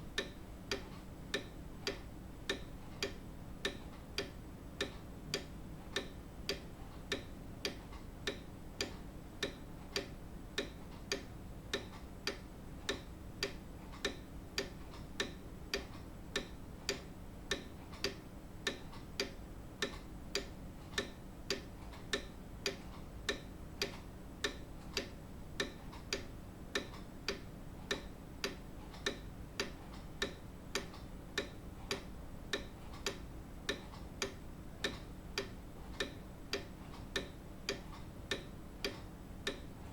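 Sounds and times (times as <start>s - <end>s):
clock ticking: 0.1s - 39.8s.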